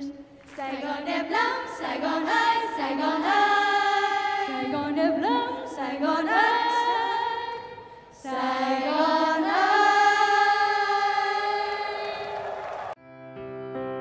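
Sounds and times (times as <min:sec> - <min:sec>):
women singing together: 0:00.0 - 0:12.5.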